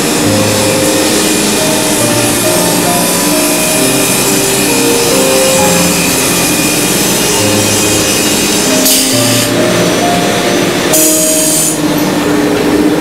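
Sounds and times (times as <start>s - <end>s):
background music with melody: 0.0s - 13.0s
hissing machine noise: 0.0s - 13.0s.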